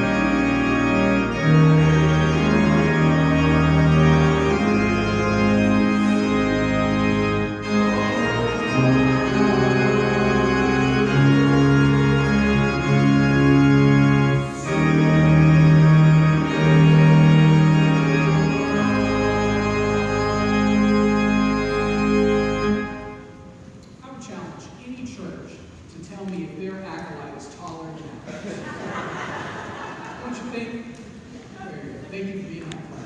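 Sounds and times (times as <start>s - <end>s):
organ playing sustained chords: 0.0s - 23.8s, 28.2s - 31.0s.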